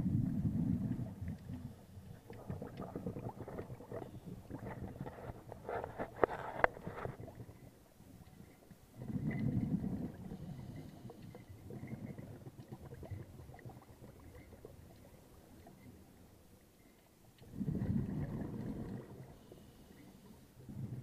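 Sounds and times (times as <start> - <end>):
underwater exhaled bubbles rumbling: 0.0 - 16.1, 17.4 - 19.6, 20.6 - 21.0.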